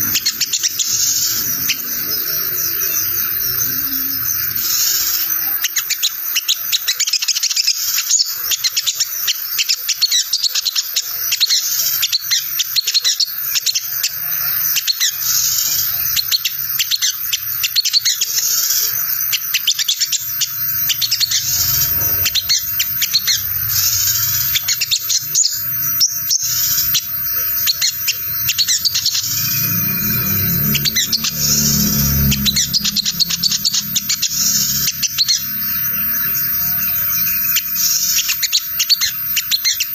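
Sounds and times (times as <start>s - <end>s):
sunbird twittering chatter: 0.0s - 39.9s.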